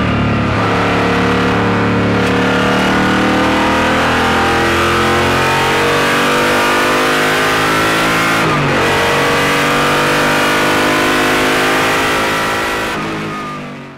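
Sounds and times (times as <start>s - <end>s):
racing car engine accelerating: 0.0s - 13.6s.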